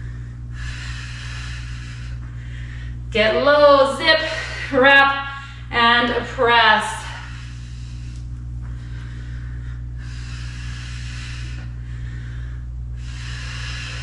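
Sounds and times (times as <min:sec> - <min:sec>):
woman breathing hard: 0:00.0 - 0:05.7, 0:07.0 - 0:14.0
steady low hum: 0:00.0 - 0:14.0.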